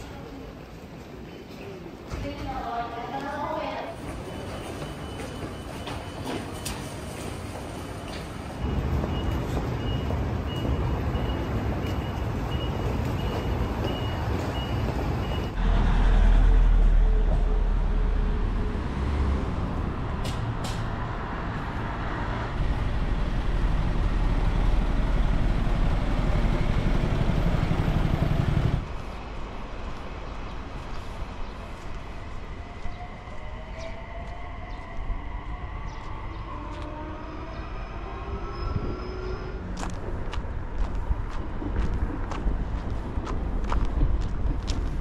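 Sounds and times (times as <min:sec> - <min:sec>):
road traffic: 0:00.0 - 0:45.0
deep traffic rumble: 0:06.4 - 0:45.0.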